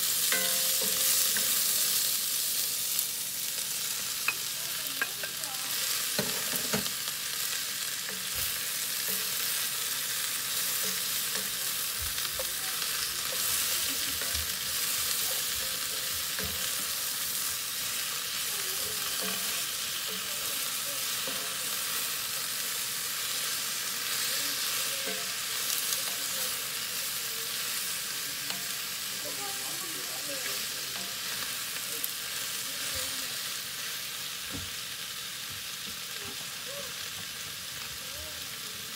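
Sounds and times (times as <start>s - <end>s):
food sizzling in a skillet: 0.0s - 38.9s.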